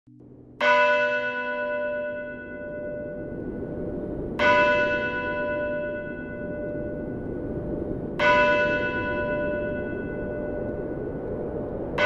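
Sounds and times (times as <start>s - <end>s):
low steady rushing background: 0.2s - 12.0s
large church bell ringing: 0.5s - 12.0s.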